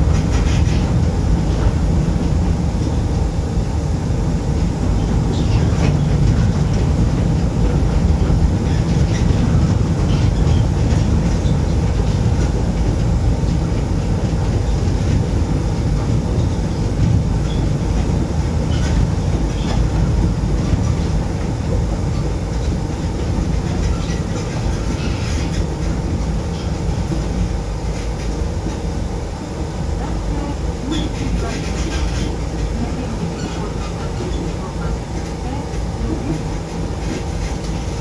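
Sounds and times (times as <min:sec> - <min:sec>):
monorail train rumbling: 0:00.0 - 0:38.0.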